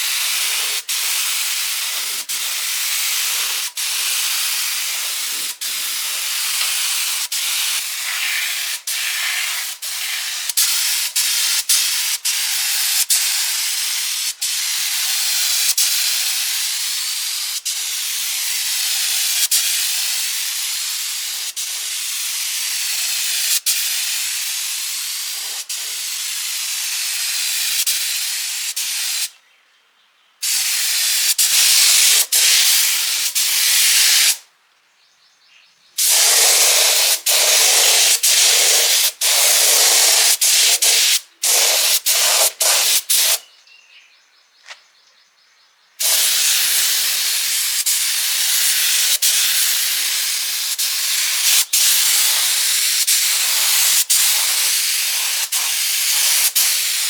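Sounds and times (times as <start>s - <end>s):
high-pressure spray hissing: 0.0s - 29.3s, 30.4s - 34.4s, 36.0s - 43.4s, 46.0s - 57.0s.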